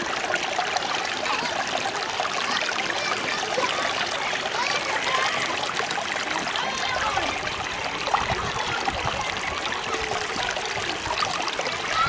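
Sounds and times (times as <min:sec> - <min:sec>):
stream babbling over rocks: 0:00.0 - 0:12.0.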